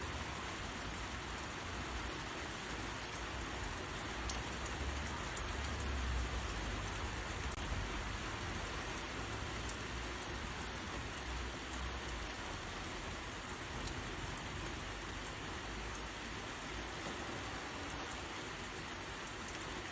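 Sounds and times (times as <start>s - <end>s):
rain drop ticks: 0.2s - 19.9s
rain hissing: 3.6s - 19.9s.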